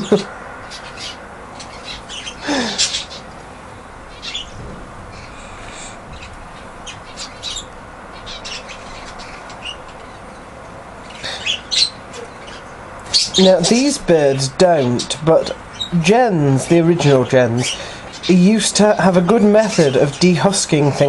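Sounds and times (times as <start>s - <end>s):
budgerigars chirping and squawking: 0.0s - 3.4s, 4.1s - 21.0s.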